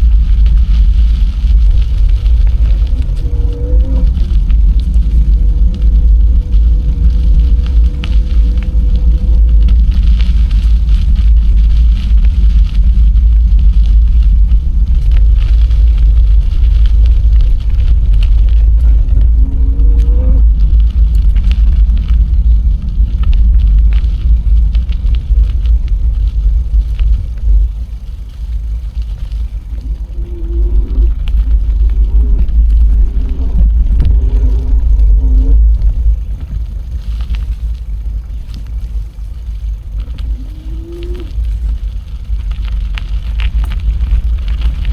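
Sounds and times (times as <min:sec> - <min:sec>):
bicycle riding noise: 0:00.0 - 0:44.9
wind buffeting microphone: 0:00.0 - 0:44.9.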